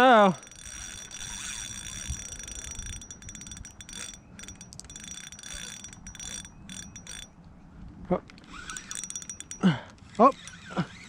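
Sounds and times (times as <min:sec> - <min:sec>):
fishing reel ticking: 0:00.0 - 0:07.4, 0:08.4 - 0:11.0.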